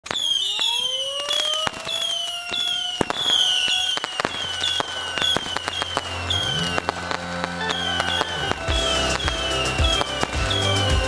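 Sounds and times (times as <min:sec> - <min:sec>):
firework cracks and bangs: 0:00.0 - 0:11.0
firework whistle rising: 0:00.0 - 0:11.0
short falling firework whistles: 0:00.0 - 0:11.0.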